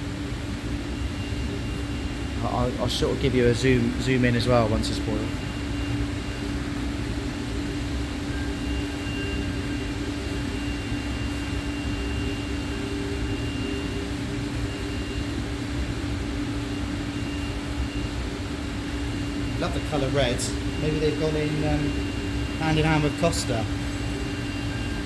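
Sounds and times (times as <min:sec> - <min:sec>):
cnc machine running: 0:00.0 - 0:25.0
coffee maker heating water: 0:00.0 - 0:25.0.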